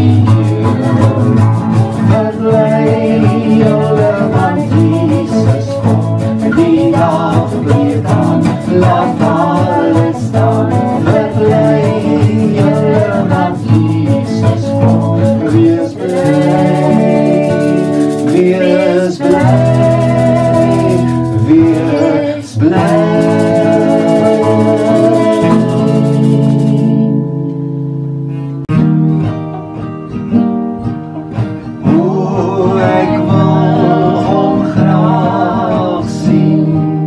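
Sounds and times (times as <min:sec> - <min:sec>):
man singing gospel song: 0:00.0 - 0:26.6, 0:31.8 - 0:37.0
acoustic guitar strumming: 0:00.0 - 0:37.0.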